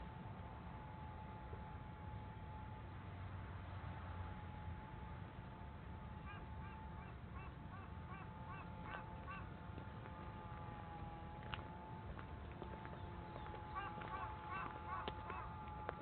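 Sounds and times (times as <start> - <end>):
thin high hum: 0.0 - 16.0.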